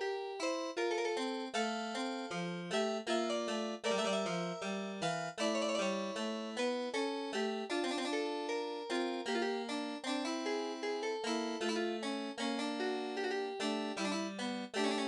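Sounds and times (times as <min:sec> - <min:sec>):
lively harpsichord-like keyboard music: 0:00.0 - 0:15.0.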